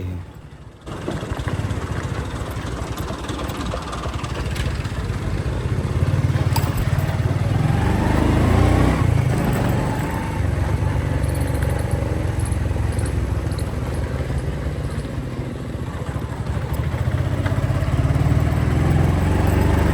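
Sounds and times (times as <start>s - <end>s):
road noise: 0.0s - 19.9s
motorcycle engine running: 0.3s - 19.9s.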